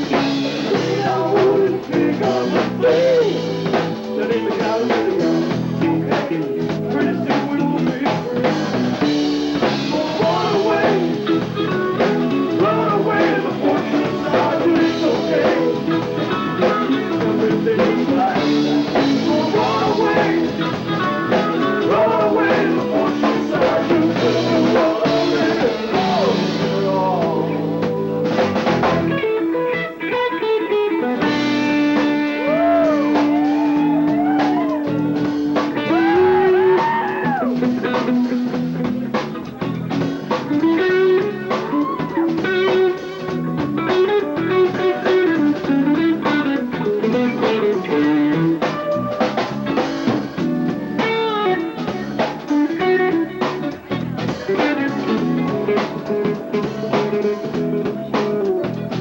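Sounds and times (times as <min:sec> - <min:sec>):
electric guitar lead: 0:00.0 - 0:59.0
rock band playing: 0:00.0 - 0:59.0.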